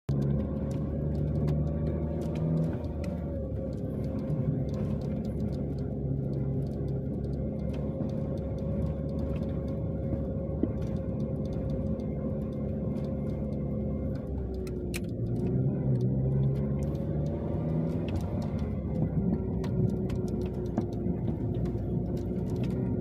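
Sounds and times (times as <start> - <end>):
vehicle engine rumbling: 0.1 - 23.0.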